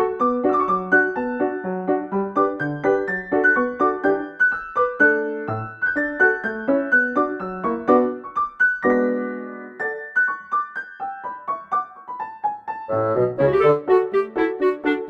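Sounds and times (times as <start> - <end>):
bouncy piano-like melody: 0.0 - 15.0.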